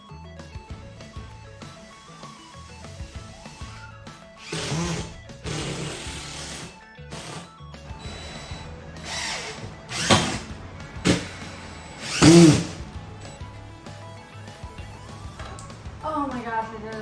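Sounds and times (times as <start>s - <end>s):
background music: 0.0s - 17.0s
power drill spinning: 0.5s - 16.0s.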